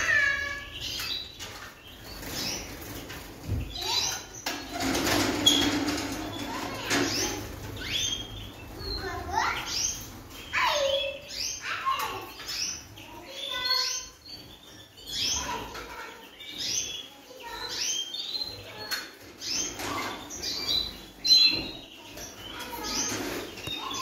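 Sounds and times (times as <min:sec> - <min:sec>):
songbirds chirping: 0:00.0 - 0:24.0
wings fluttering in cages: 0:00.0 - 0:24.0.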